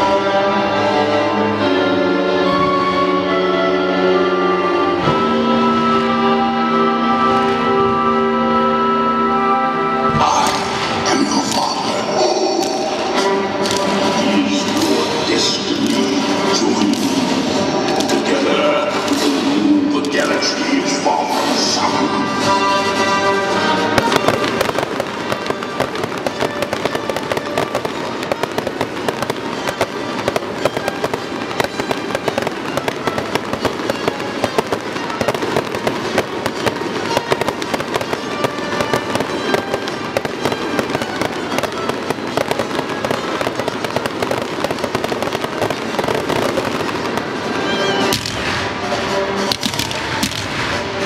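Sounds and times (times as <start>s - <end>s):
music: 0.0s - 51.0s
fireworks crackling and popping: 9.7s - 51.0s.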